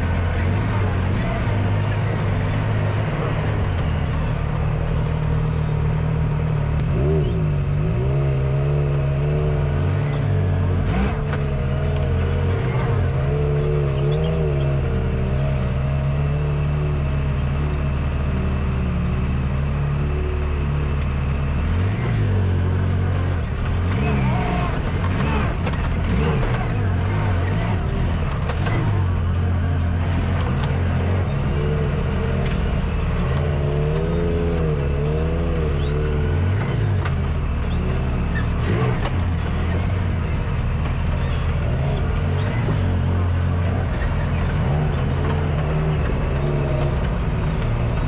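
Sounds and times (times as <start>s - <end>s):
engine revving at low speed: 0.0s - 48.0s.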